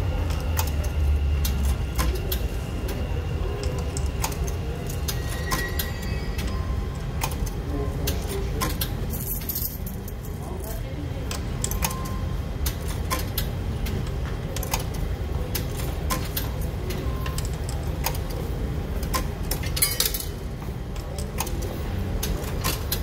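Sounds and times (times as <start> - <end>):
low machine hum: 0.0 - 23.0
coins clicking into coin slot: 3.6 - 10.6, 11.2 - 23.0.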